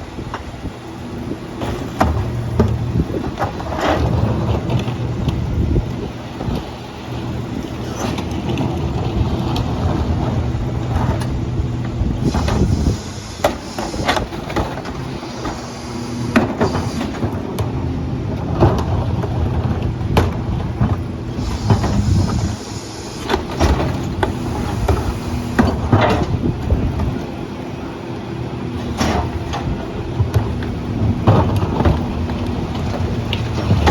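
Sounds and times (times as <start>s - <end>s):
garbage truck engine running: 0.0s - 33.9s.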